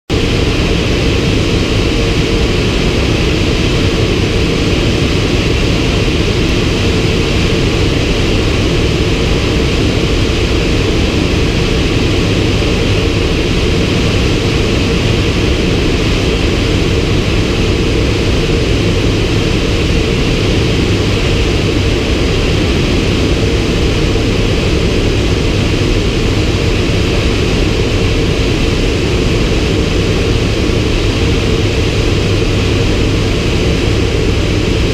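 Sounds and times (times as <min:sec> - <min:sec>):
turboprop engine drone: 0:00.1 - 0:34.9.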